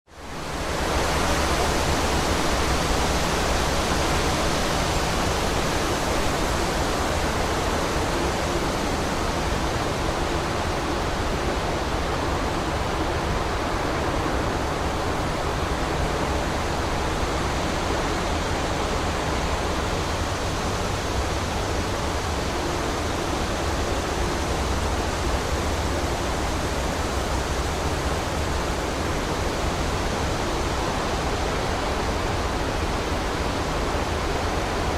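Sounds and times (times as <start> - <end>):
strong wind through trees: 0.1 - 34.9.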